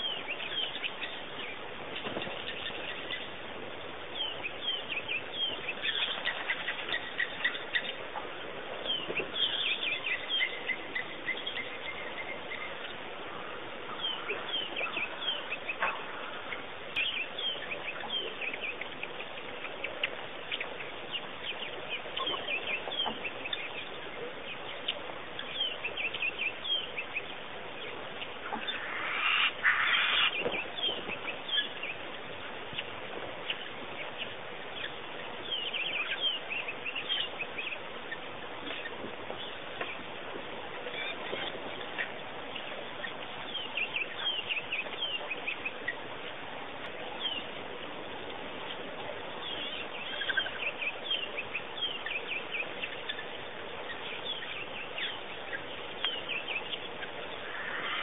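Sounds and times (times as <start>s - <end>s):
steady background hiss: 0.0s - 58.0s
wild birds chirping and calling: 0.0s - 58.0s.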